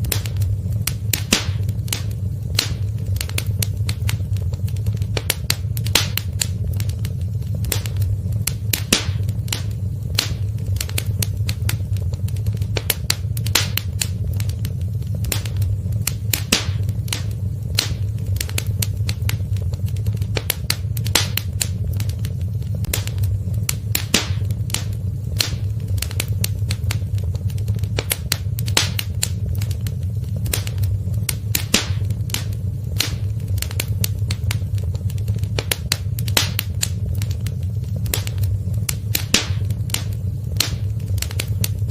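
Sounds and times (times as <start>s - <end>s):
low rumble of burning fire: 0.0s - 41.9s
wood fire crackling: 0.0s - 41.9s.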